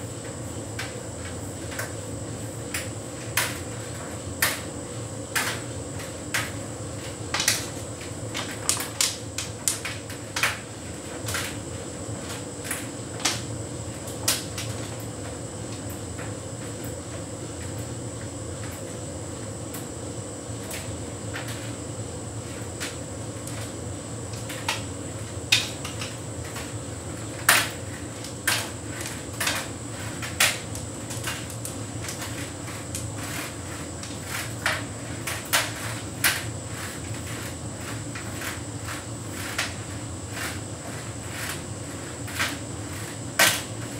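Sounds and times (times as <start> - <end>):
tumble dryer hum: 0.0 - 43.9.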